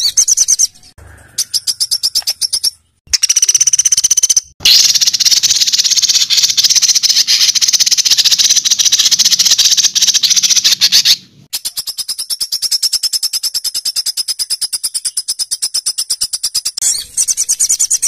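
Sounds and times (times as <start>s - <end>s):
evenly pulsed bird trill: 0.0s - 18.0s
high-pitched rattling bird trill: 0.0s - 18.0s.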